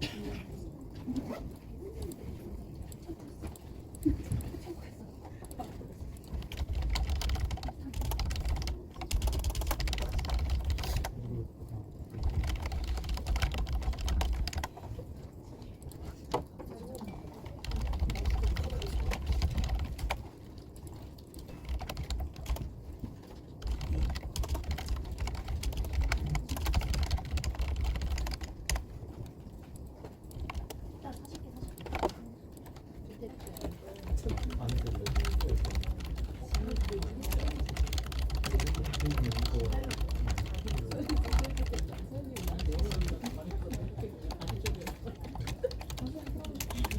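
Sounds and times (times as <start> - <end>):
typing on computer keyboard: 1.2 - 11.2, 12.0 - 46.9.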